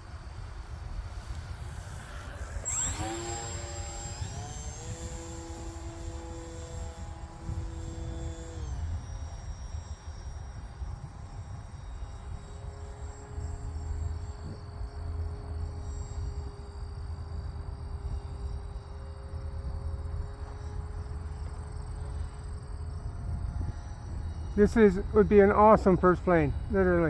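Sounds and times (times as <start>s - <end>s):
model plane motor whining: 0.0s - 27.0s
wind rumbling on microphone: 0.0s - 27.0s.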